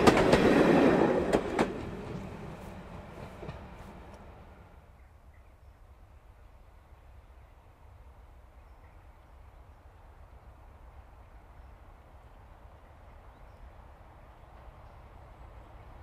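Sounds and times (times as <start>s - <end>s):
distant diesel locomotive engine: 0.0s - 16.0s.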